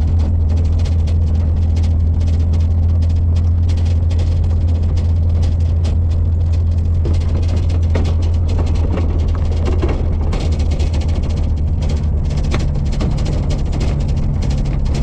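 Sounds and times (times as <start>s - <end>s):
engine and road drone: 0.0s - 15.0s
vehicle body rattling knocks: 0.0s - 15.0s.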